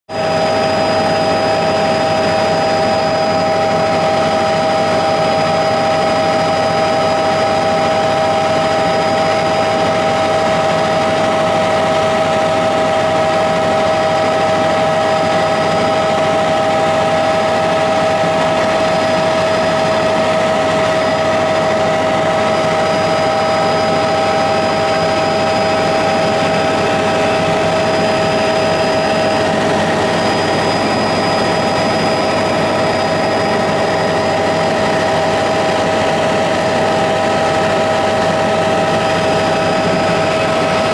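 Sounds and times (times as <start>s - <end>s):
aircraft engine drone: 0.1s - 40.9s.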